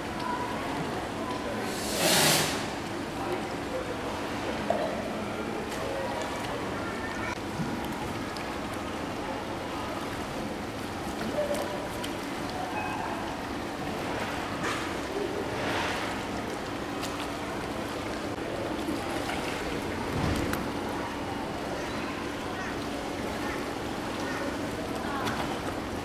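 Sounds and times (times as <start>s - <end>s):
water sloshing and lapping: 0.0s - 26.0s
faint voices: 2.6s - 26.0s.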